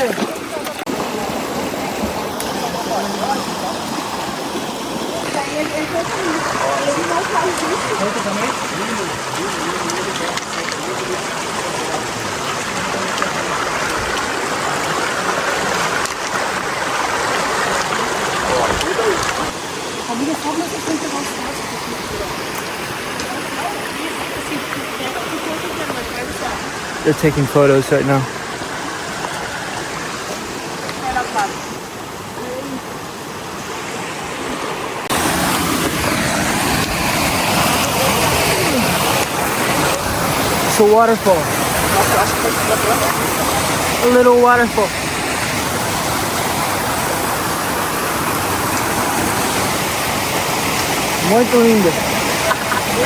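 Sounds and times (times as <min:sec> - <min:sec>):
water rushing in rocky stream: 0:00.0 - 0:53.0.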